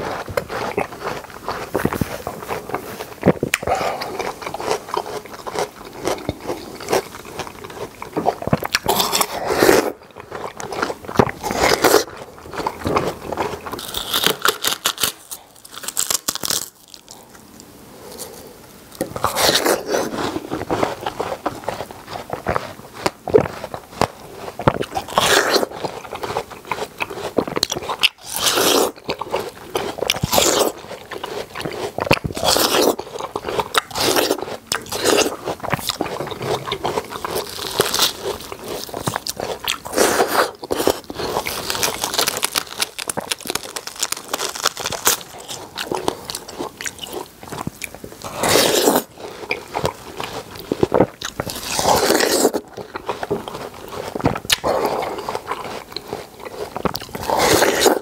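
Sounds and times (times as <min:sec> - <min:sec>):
watermelon crunching bites: 0:00.0 - 0:17.4, 0:19.0 - 0:58.0.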